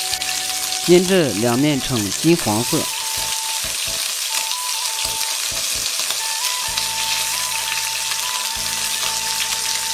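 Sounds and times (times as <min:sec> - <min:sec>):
chicken wings frying in oil: 0:00.0 - 0:09.9.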